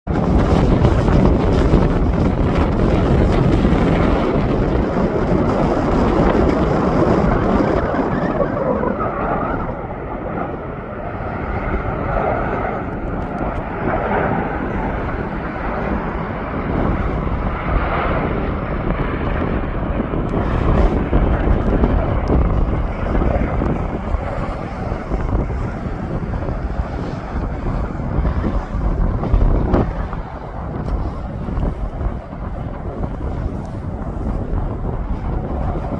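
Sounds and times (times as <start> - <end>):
jet engines rumbling: 0.0 - 35.9
engine whine: 0.1 - 35.9.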